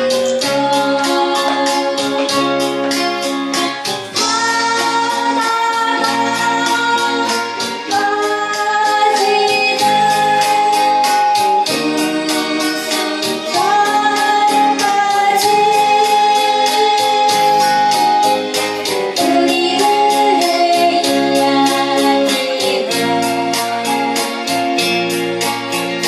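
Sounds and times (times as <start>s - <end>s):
person singing: 0.0s - 24.6s
keyboard accompaniment: 0.0s - 26.0s.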